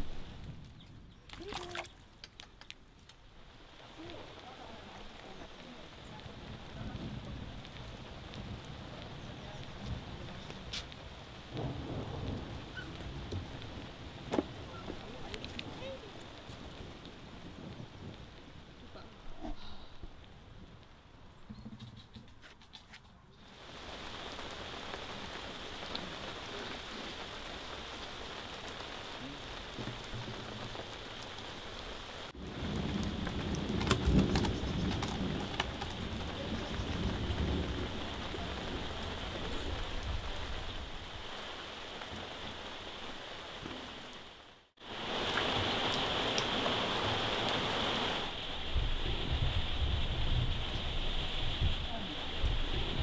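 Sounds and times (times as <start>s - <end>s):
steady rain falling: 0.0s - 21.4s, 23.4s - 53.0s.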